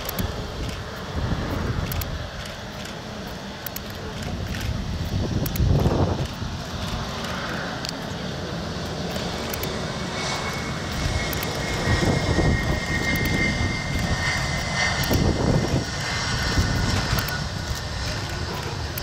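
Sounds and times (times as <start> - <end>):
jet engine deep rumble: 0.0 - 19.0
jet engine high whine: 0.0 - 19.0.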